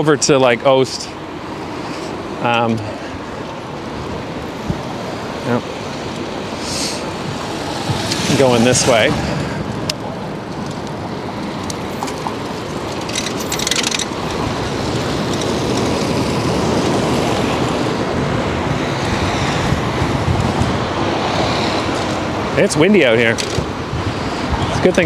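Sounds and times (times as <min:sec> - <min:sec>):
wind buffeting microphone: 0:03.2 - 0:13.2, 0:14.0 - 0:25.0.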